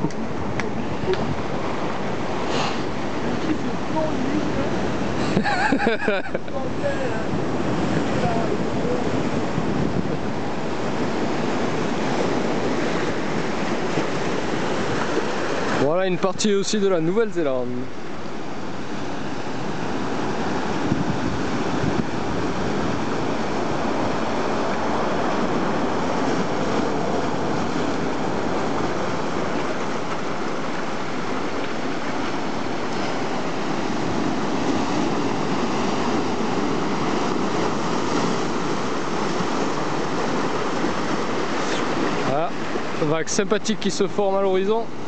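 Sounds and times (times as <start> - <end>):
sea surf washing among rocks: 0.0 - 45.0.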